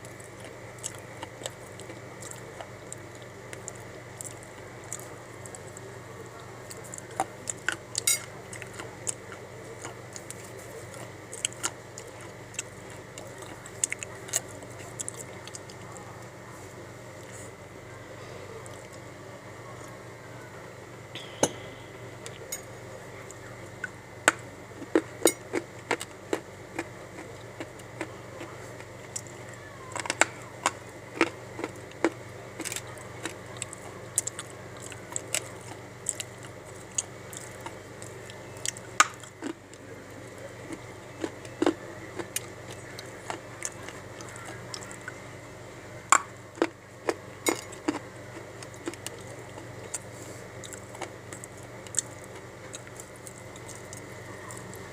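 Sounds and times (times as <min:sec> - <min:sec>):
crunchy biting and chewing: 0:00.0 - 0:16.4, 0:23.8 - 0:45.2, 0:46.1 - 0:54.9
steady background hum: 0:00.0 - 0:54.9.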